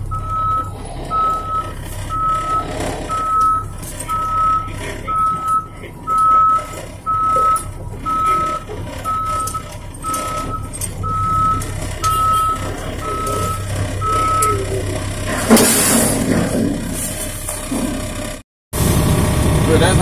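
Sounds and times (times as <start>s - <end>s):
truck backup alarm beeping: 0.0s - 18.4s
truck engine humming: 0.0s - 20.0s.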